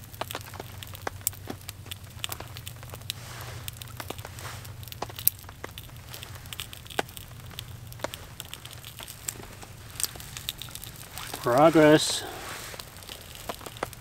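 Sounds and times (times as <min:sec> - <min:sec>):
small fire crackling and popping: 0:00.0 - 0:14.0.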